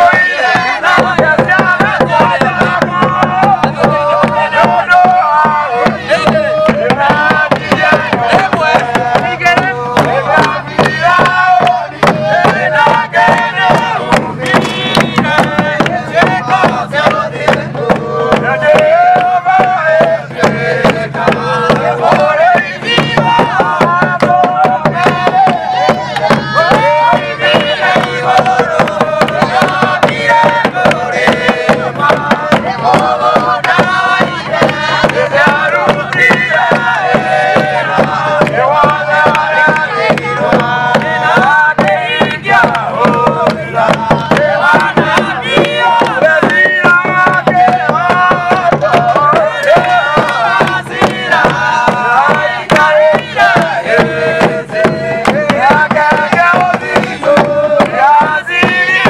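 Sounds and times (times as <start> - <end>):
group of voices chanting: 0.0 - 59.0
hand-clapping: 0.0 - 59.0
large drums beaten fast: 0.0 - 59.0.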